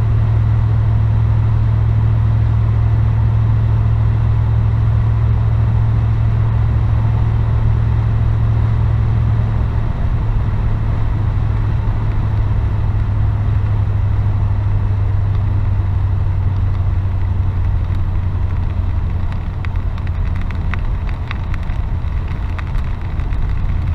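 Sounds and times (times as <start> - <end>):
car engine drone from cabin: 0.0 - 23.9.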